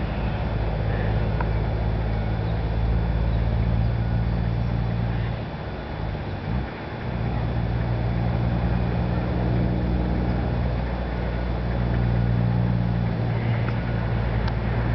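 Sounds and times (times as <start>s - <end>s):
engine idling: 0.0s - 14.9s.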